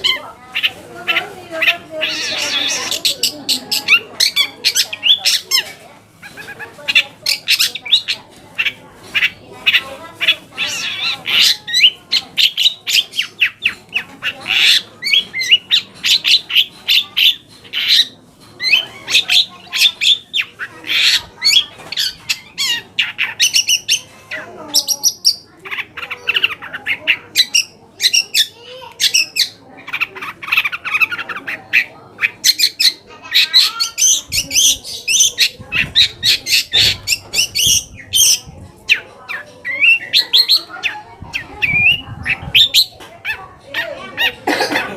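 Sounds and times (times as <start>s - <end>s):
bird singing chattering song: 0.0s - 44.7s.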